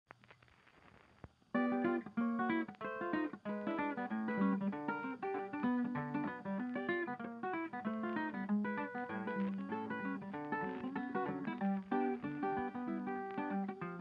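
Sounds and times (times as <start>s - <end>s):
fast plucked acoustic guitar: 1.6s - 14.0s.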